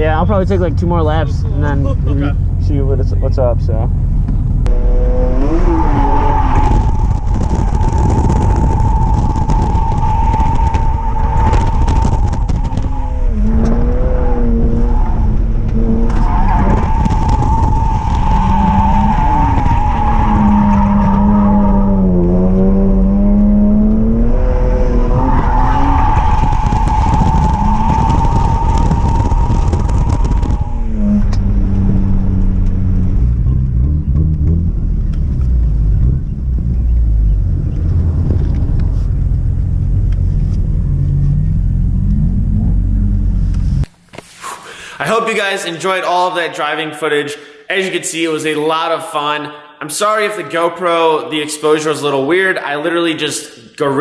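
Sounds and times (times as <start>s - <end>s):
car engine at high revs: 0.0s - 44.0s.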